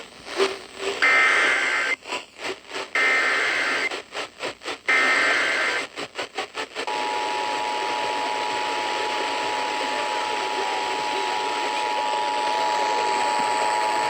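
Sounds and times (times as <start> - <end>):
radio hiss: 0.0 - 14.0.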